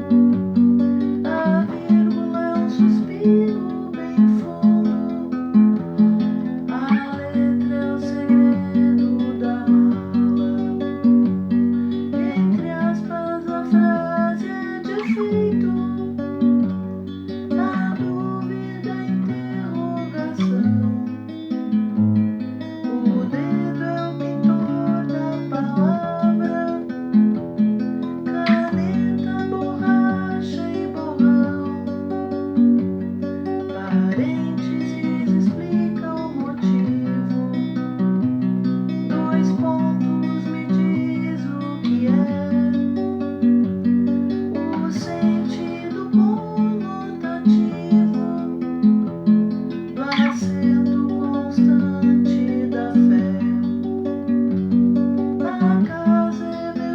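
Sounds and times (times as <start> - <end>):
acoustic guitar strumming chords: 0.0 - 56.9.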